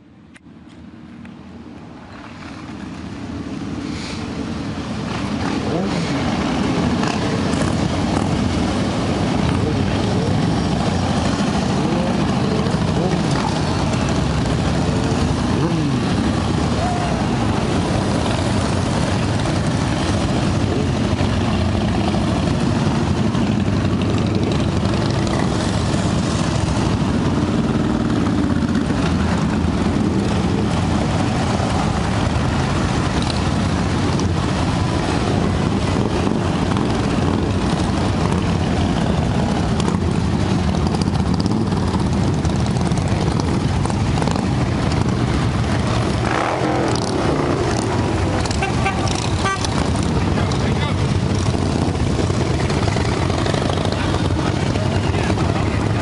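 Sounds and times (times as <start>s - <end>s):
motorcycle engines rumbling: 0.0s - 56.0s
road noise: 0.0s - 56.0s.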